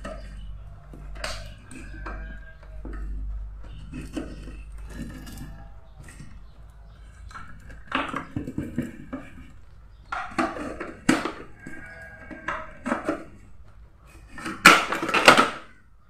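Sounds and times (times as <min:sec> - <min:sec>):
plastic parts clicking and knocking: 0:00.0 - 0:15.8.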